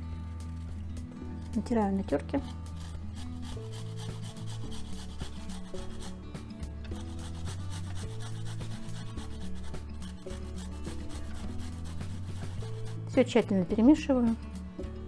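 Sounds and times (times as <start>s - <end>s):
soft background music: 0.0s - 15.0s
ginger rasped on metal grater: 1.4s - 13.5s.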